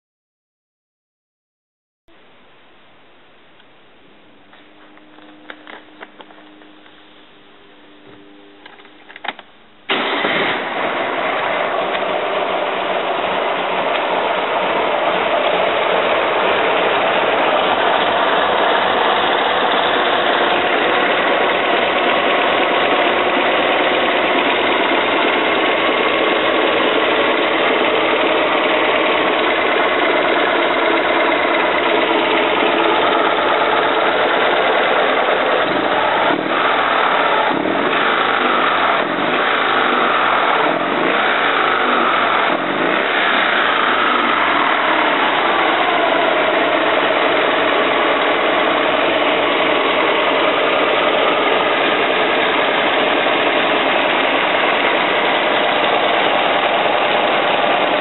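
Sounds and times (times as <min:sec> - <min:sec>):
engine idling and revving: 0:04.1 - 0:58.0.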